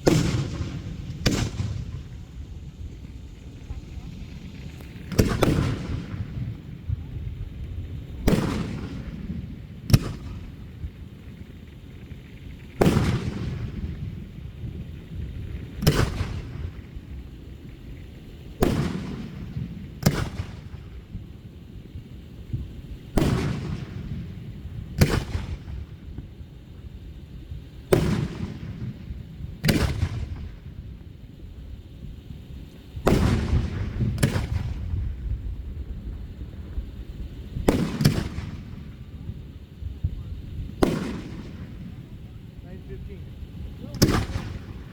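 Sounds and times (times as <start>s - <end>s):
fireworks bursting with echo: 0.0s - 44.9s.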